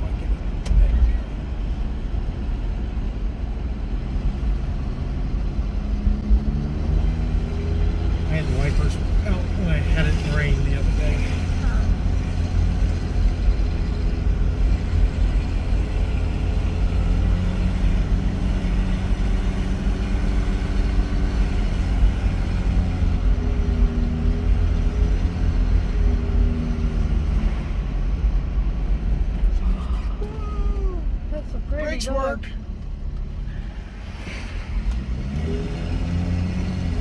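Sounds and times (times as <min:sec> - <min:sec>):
car engine rumbling: 0:00.0 - 0:37.0
road noise: 0:00.0 - 0:37.0.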